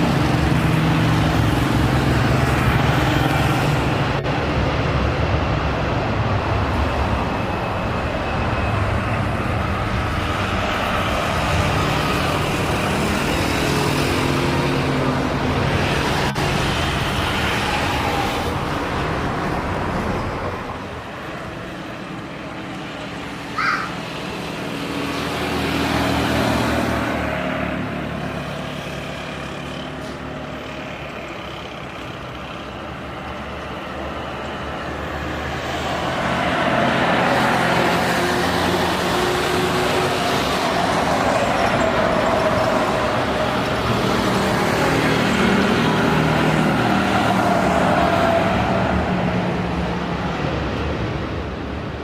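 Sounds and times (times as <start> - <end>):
heavy vehicles passing: 0.0 - 52.0.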